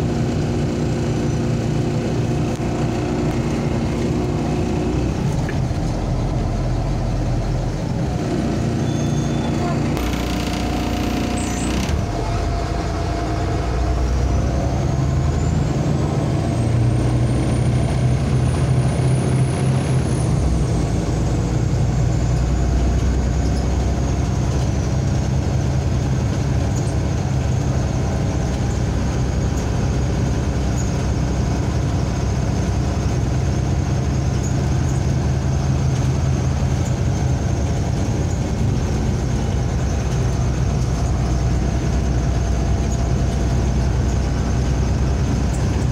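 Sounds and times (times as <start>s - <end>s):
bus engine drone: 0.0s - 45.9s
high engine whine: 0.0s - 45.9s.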